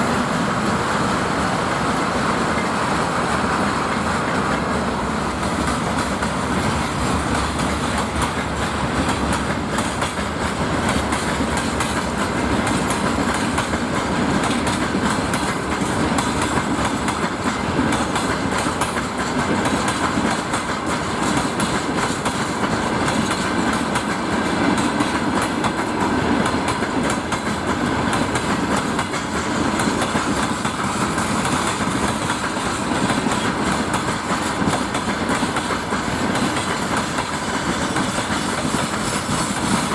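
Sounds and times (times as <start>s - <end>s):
train wheels clattering over rail joints: 0.0s - 39.9s.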